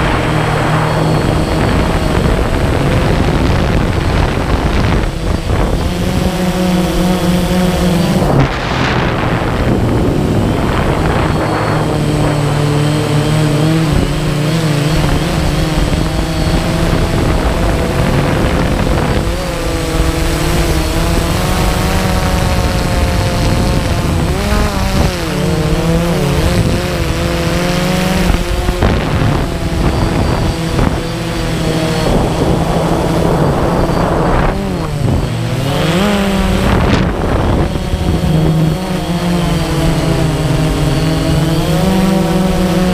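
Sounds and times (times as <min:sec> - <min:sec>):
drone propellers whining: 0:00.0 - 0:42.9
wind on microphone: 0:00.0 - 0:42.9.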